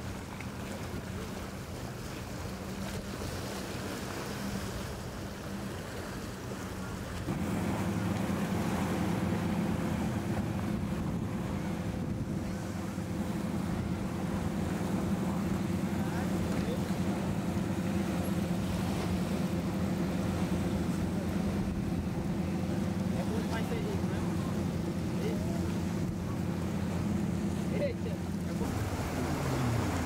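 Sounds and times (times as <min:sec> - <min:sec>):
boat engines droning: 0:00.0 - 0:30.0
passing boat: 0:00.0 - 0:30.0
water rushing off hull: 0:00.0 - 0:30.0.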